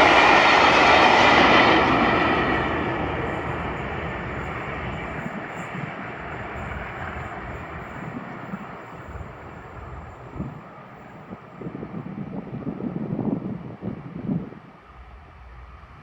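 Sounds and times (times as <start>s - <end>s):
passing train rushing: 0.0s - 16.0s.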